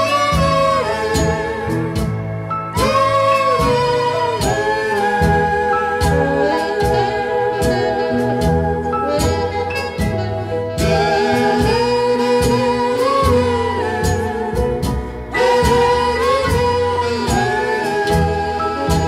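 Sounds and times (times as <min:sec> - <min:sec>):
song with gliding lead melody: 0:00.0 - 0:19.0.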